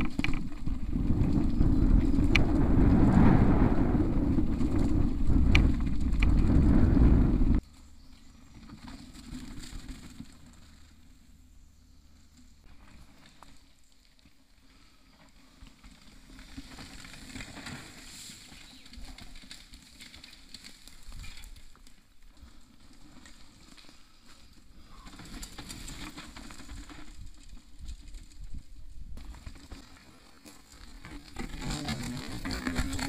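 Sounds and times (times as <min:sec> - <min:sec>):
bike rattling over bumps: 0:00.0 - 0:11.6, 0:14.7 - 0:33.0
bike tyres on dirt: 0:00.0 - 0:33.0.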